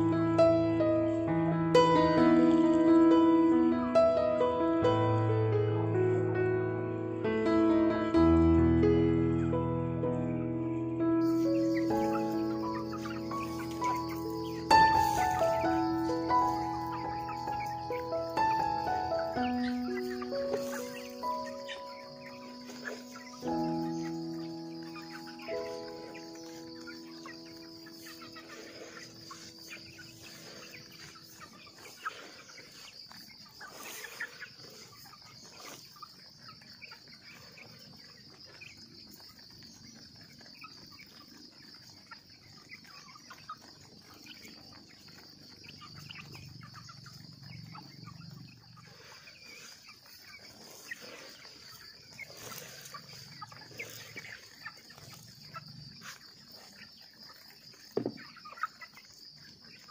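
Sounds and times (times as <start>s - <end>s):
chickens clucking: 0.0s - 4.9s, 10.2s - 59.9s
chickens pecking ground: 2.4s - 2.8s, 10.2s - 59.9s
high insect drone: 10.4s - 59.9s.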